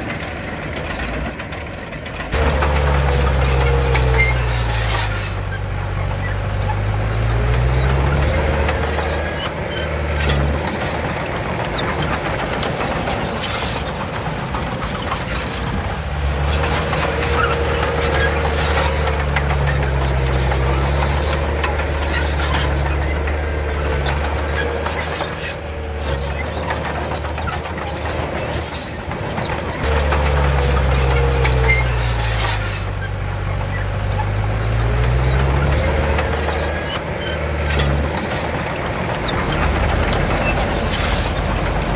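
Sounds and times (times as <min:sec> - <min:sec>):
bulldozer diesel engine: 0:00.0 - 0:41.9
wavering squeal: 0:00.0 - 0:41.9.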